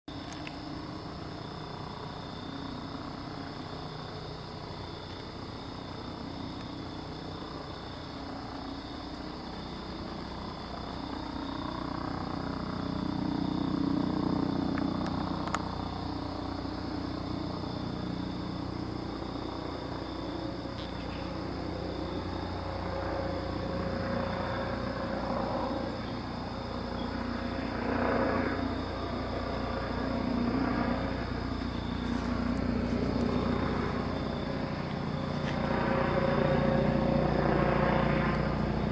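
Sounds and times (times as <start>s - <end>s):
helicopter rotor and engine drone: 0.1s - 38.9s.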